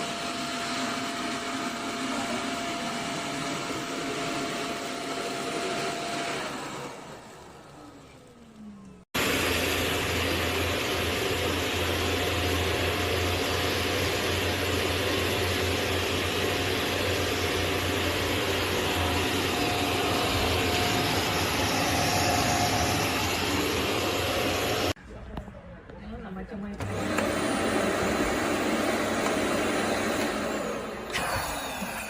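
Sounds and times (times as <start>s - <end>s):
vacuum cleaner running: 0.0s - 8.4s, 9.2s - 25.0s, 26.8s - 32.0s.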